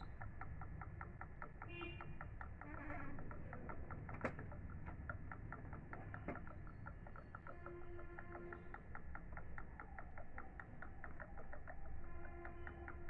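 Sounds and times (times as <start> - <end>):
printer mechanism ticking: 0.0 - 13.0.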